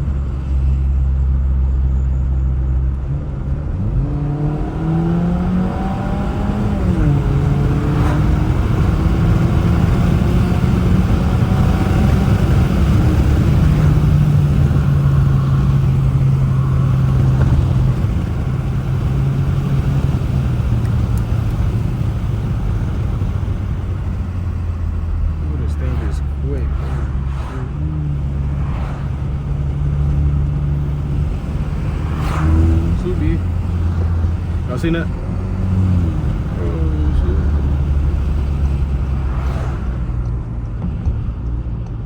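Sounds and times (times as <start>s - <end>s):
car engine revving: 2.5s - 42.0s.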